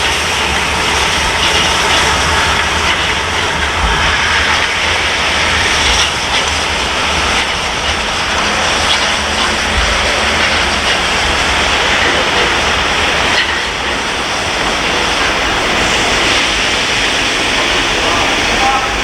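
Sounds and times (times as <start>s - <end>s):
train rushing: 0.0s - 19.0s.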